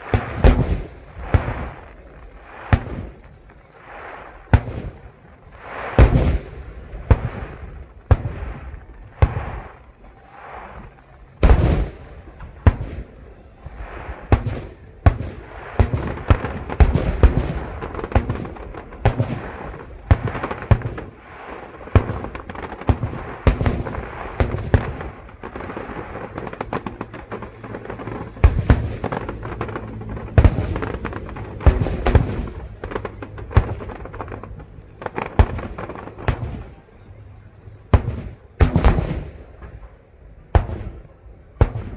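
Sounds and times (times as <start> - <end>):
fireworks bursting: 0.0 - 41.9
fireworks crackling: 0.0 - 41.9.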